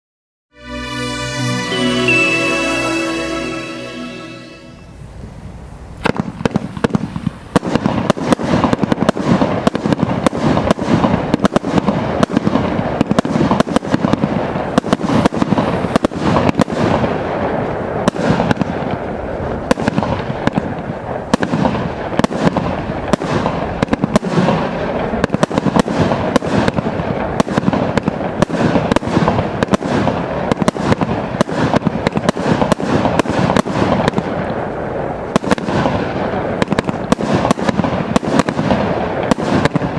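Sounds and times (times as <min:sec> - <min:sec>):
firework barrage firing: 0:06.0 - 0:39.9.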